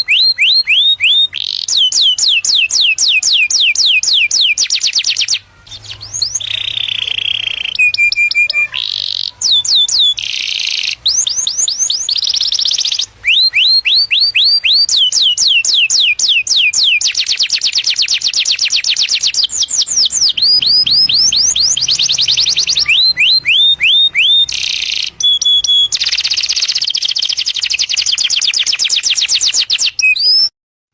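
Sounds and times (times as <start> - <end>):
canary singing trills: 0.0 - 30.5.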